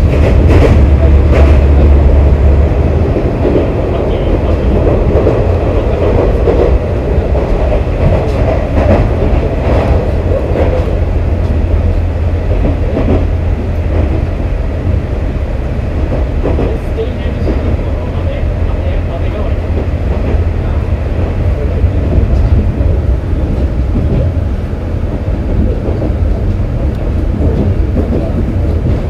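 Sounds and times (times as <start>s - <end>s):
diesel engine drone: 0.0s - 28.9s
train wheels rumbling: 0.0s - 29.0s.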